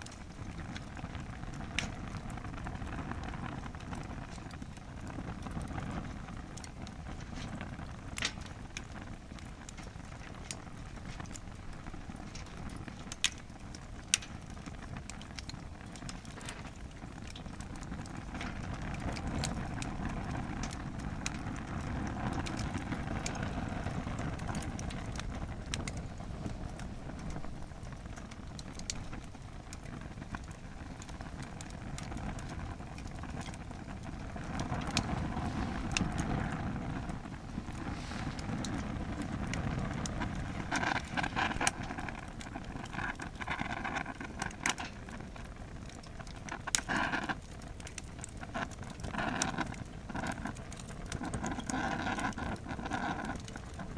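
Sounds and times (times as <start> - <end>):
burning wood crackles and pops: 0.0 - 53.9
rush of fire flames: 0.0 - 53.9.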